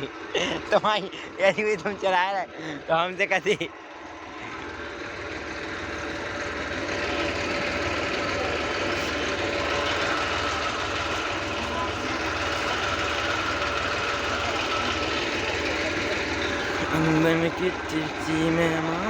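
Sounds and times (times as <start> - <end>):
diesel engine throbbing: 0.0 - 19.0
thin steady whine: 0.3 - 19.0.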